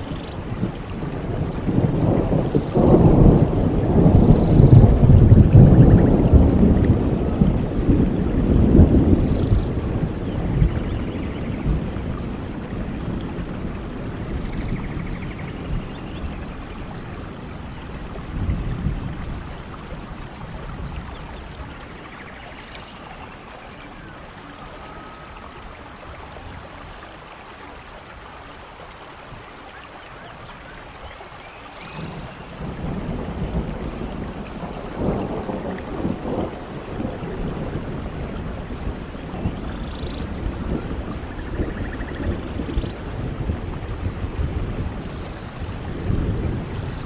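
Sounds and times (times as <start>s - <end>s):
thunder rumbling: 0.0s - 27.0s, 31.9s - 47.0s
steady rain: 0.0s - 47.0s.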